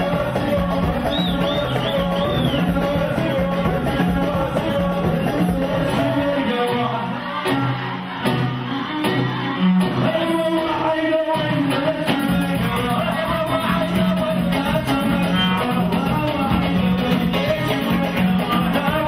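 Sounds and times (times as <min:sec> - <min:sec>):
live band with keyboard melody: 0:00.0 - 0:19.0.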